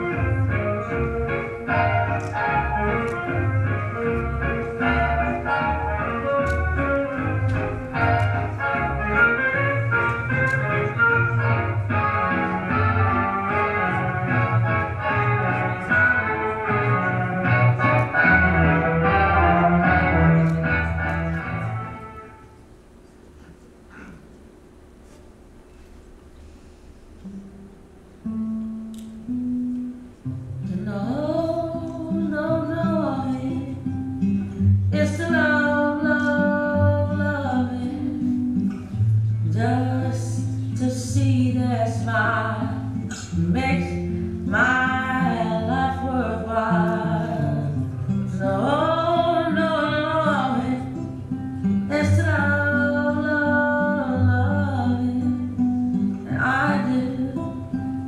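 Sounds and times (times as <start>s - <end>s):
guitar accompaniment: 0.0s - 22.7s, 27.1s - 58.0s.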